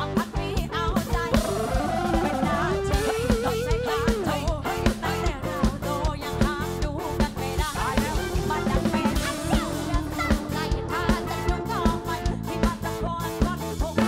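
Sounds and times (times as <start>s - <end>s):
drum kit: 0.0s - 14.0s
electric guitar: 0.0s - 14.0s
person singing: 0.0s - 14.0s.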